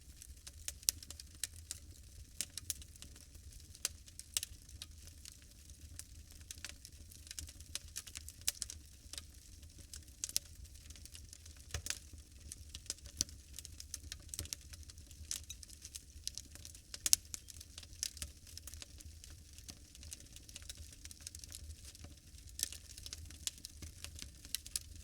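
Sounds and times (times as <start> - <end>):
wood fire crackling and popping: 0.1 - 25.0.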